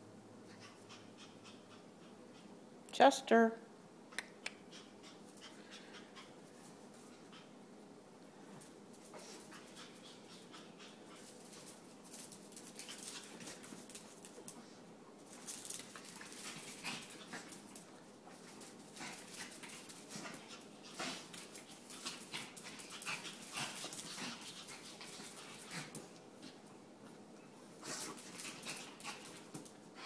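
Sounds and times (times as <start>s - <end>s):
puppies play-fighting: 0.4s - 2.8s, 4.3s - 8.0s, 8.6s - 30.0s.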